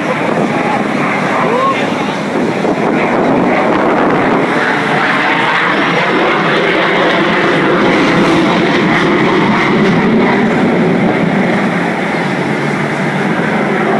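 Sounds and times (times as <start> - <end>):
fighter jet flying past: 0.0 - 13.9.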